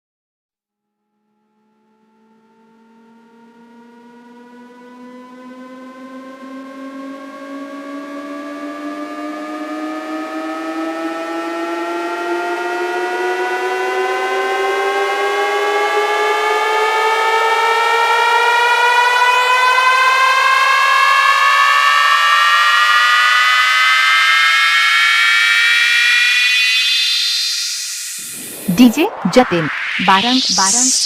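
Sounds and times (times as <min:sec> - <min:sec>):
electronic riser climbing in pitch: 0:02.2 - 0:31.0.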